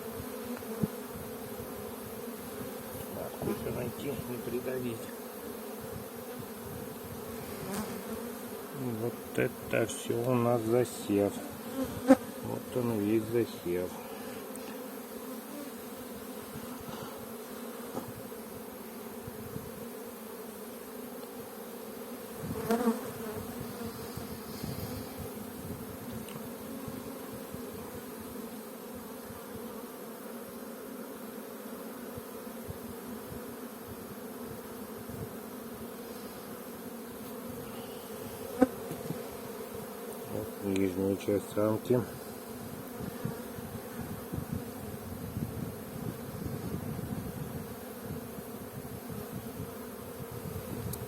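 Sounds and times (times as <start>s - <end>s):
honeybees humming: 0.0s - 51.0s
loud bee buzz: 0.0s - 51.0s.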